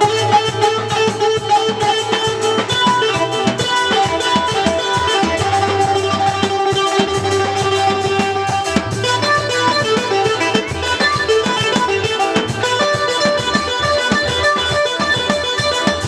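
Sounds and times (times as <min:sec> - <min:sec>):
bass line: 0:00.0 - 0:16.0
plucked guitar: 0:00.0 - 0:16.0
steady drum beat: 0:00.0 - 0:16.0.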